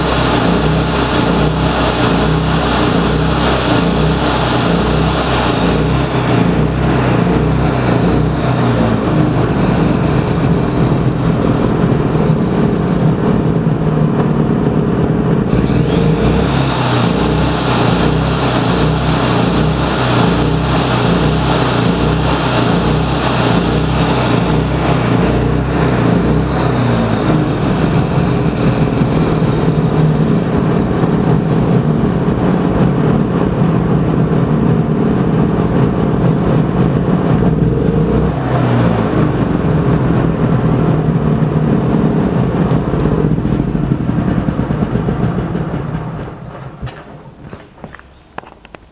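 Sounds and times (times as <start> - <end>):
welder generator engine running: 0.0 - 48.9.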